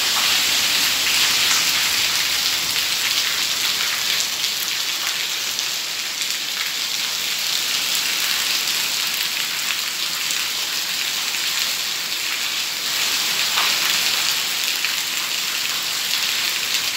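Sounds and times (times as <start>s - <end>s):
heavy rain on pavement: 0.0s - 16.9s.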